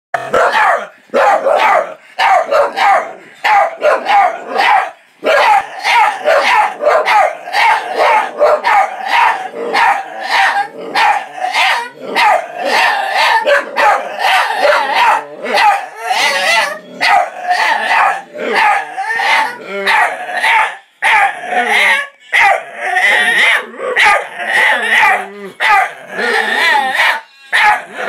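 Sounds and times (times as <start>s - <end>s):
dogs barking: 0.2s - 28.0s.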